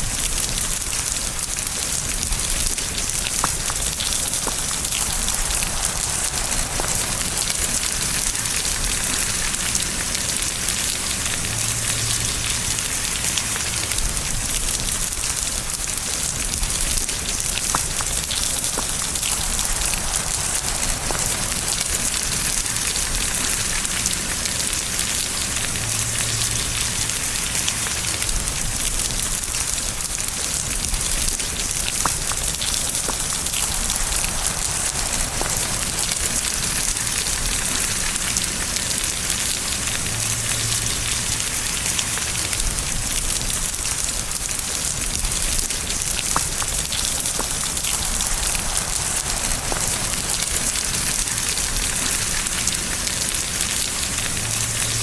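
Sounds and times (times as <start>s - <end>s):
raindrops ticking: 0.0s - 55.0s
steady rain hiss: 0.0s - 55.0s.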